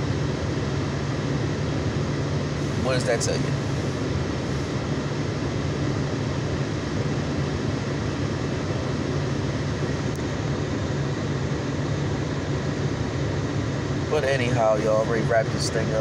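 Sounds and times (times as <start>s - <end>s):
car cabin hum: 0.0s - 12.8s, 13.4s - 16.0s
ventilation fan air rush: 0.0s - 16.0s.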